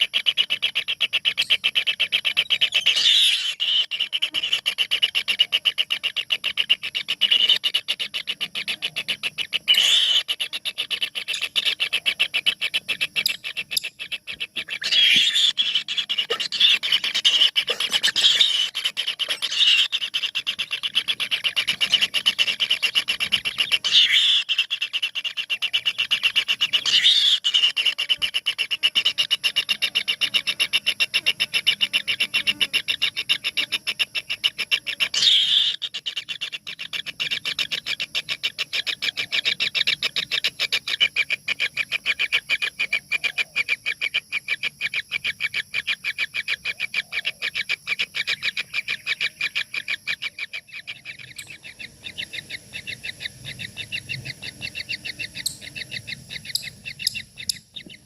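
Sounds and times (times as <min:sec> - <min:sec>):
nestlings rasping begging calls: 0:00.0 - 0:43.3, 0:44.6 - 0:58.0.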